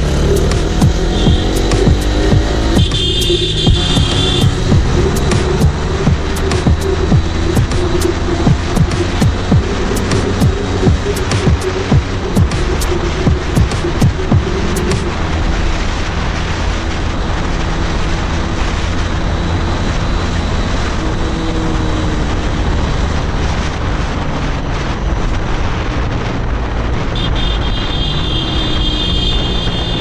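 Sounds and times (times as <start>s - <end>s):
heavy wind noise: 0.0s - 30.0s
motorcycle engine cruising: 0.0s - 30.0s
road noise: 0.0s - 30.0s.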